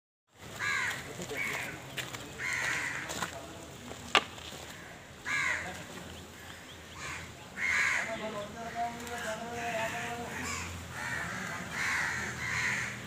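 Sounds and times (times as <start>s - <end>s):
birds cawing: 0.5s - 3.3s, 4.6s - 13.0s.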